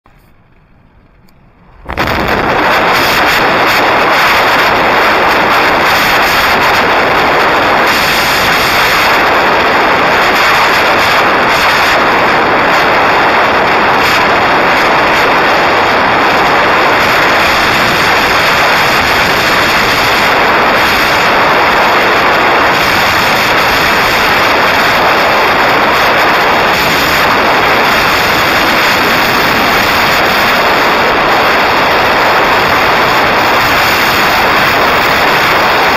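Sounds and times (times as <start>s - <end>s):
wind rushing on microphone: 0.4s - 35.9s.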